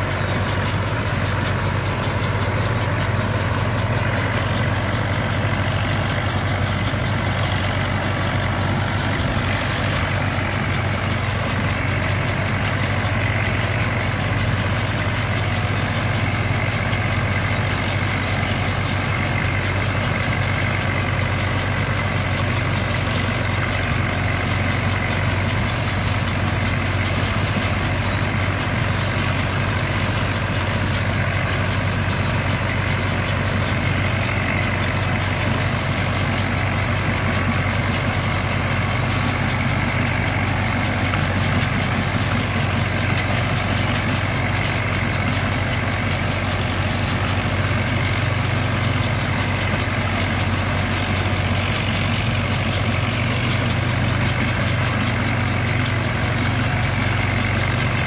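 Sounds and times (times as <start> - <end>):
baler machinery running: 0.0 - 58.0
tractor engine running under load: 0.0 - 58.0.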